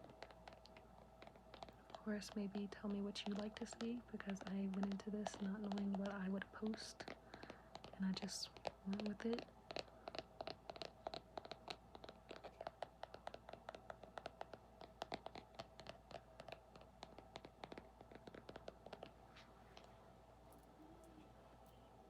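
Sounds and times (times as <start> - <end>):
fingernails tapping and scratching: 0.0 - 20.6.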